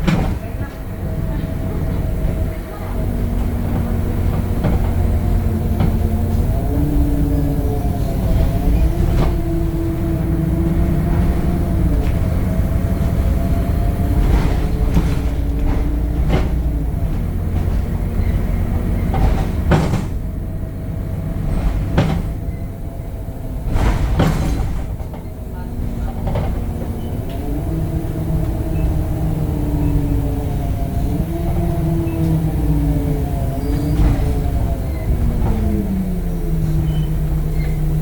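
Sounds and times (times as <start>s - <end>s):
bus engine rumbling: 0.0s - 38.0s
gearbox whine: 0.0s - 38.0s.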